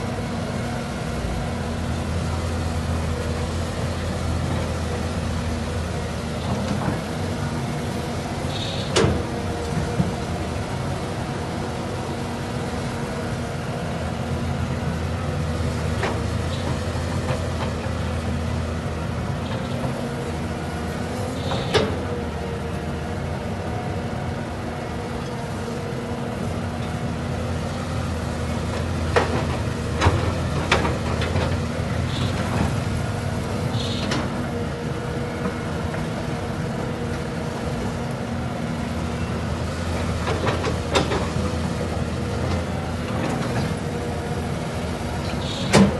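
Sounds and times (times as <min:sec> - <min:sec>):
excavator engine running: 0:00.0 - 0:45.9.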